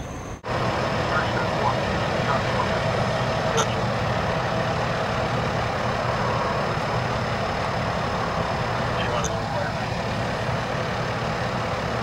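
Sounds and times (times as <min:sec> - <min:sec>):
heavy vehicles idling: 0:00.0 - 0:12.0.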